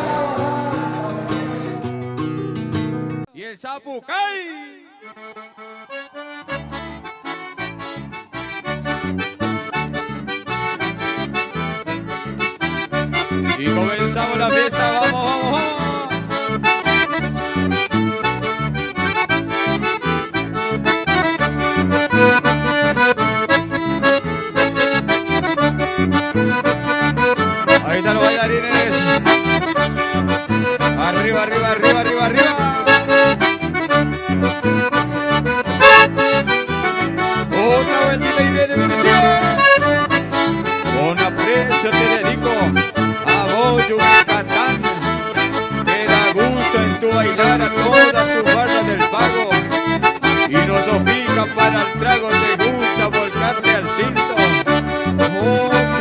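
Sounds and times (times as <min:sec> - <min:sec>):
accordion folk music: 0:00.0 - 0:03.3, 0:04.6 - 0:56.0.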